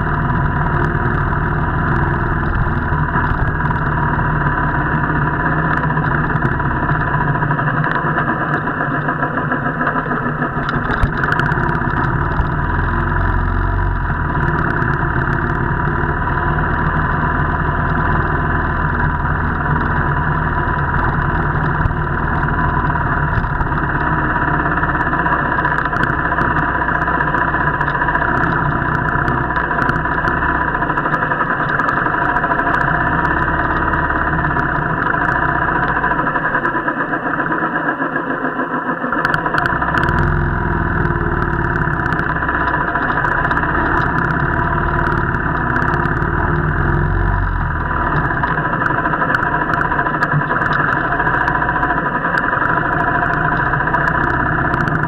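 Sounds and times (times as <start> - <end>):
muffled motorcycle engine running: 0.0 - 55.0.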